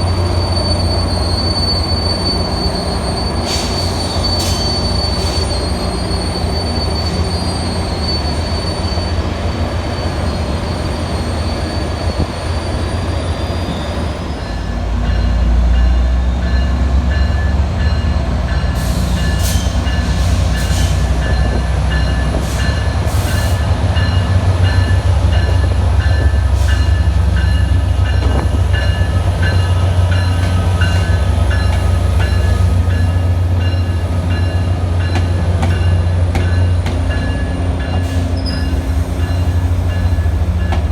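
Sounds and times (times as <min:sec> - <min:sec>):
train wheel squeal: 0:00.0 - 0:40.9.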